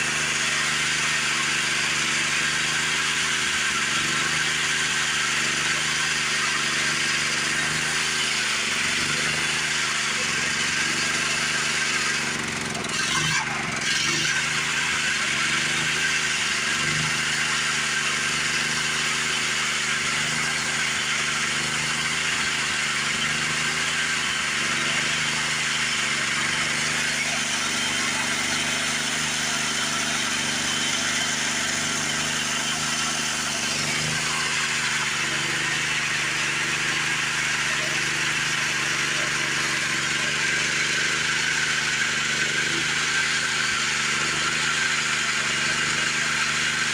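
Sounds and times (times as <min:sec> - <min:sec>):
small gasoline engine running: 0:00.0 - 0:46.9.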